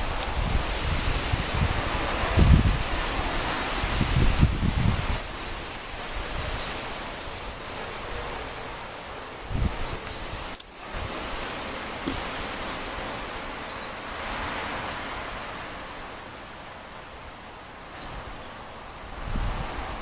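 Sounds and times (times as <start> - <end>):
wind rustling through leaves: 0.0 - 20.0.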